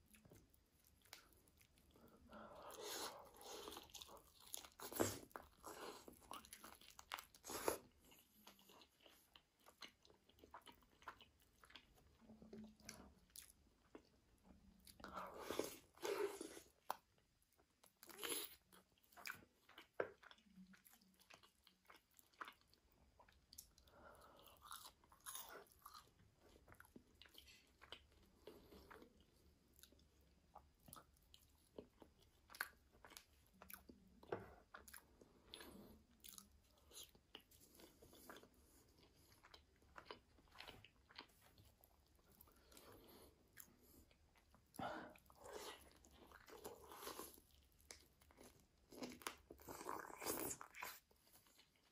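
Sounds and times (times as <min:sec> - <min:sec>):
crunchy chewing of food: 0:00.0 - 0:51.9.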